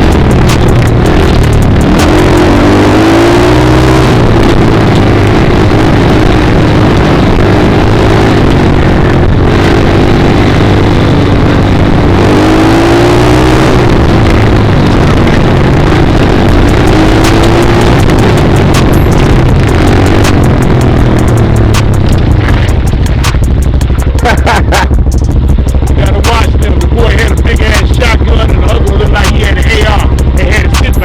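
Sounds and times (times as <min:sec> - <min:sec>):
dirt bike engine revving: 0:00.0 - 0:31.0
steady rushing noise: 0:00.0 - 0:31.0.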